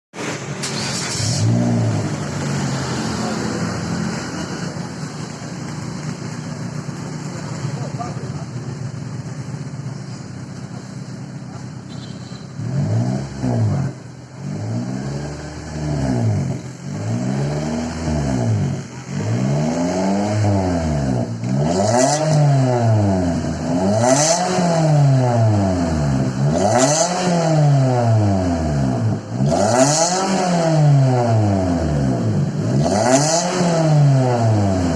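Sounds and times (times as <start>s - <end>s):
car engine revving: 0.2s - 11.6s, 12.5s - 34.9s.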